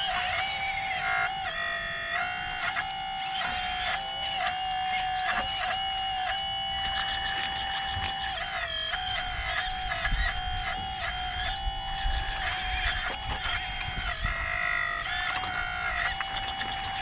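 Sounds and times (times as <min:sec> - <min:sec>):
electric hydraulic pump whining: 0:00.0 - 0:17.0.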